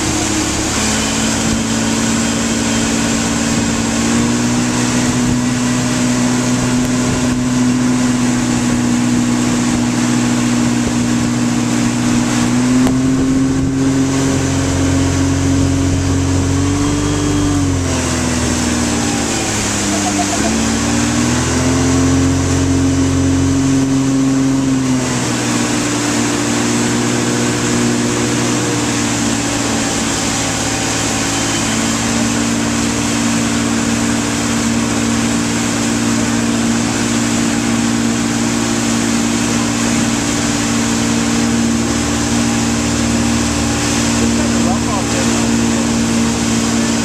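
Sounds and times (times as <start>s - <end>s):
churning wake water: 0.0s - 47.0s
motorboat engine running: 0.0s - 47.0s.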